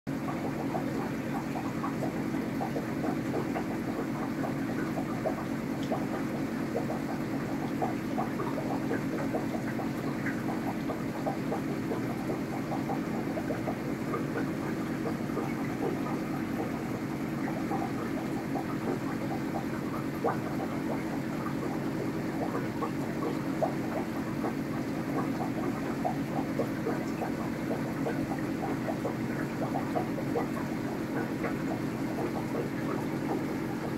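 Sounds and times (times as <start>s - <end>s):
aquarium pump humming: 0.1s - 33.9s
water bubbling and trickling: 0.1s - 33.9s.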